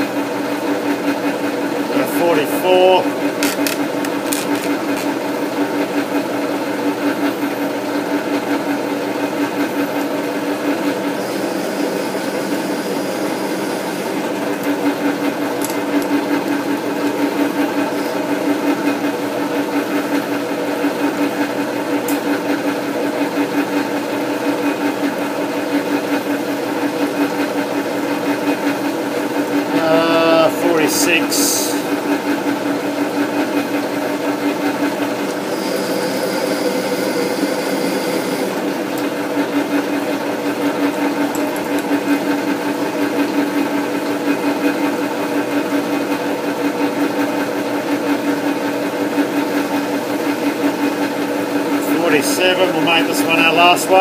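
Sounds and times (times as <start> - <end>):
lathe running with gears whirring: 0.0 - 54.0.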